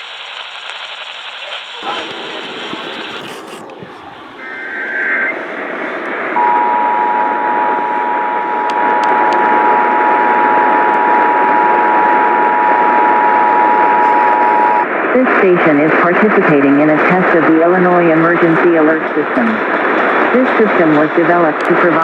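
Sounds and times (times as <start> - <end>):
radio reception hiss: 0.0 - 22.0.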